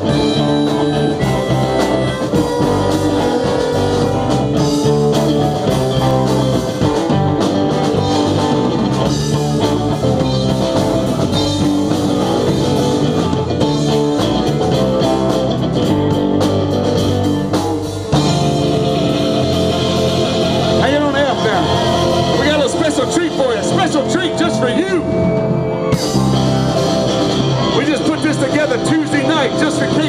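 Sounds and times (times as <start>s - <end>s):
drum kit: 0.0s - 30.0s
electric guitar: 0.0s - 30.0s.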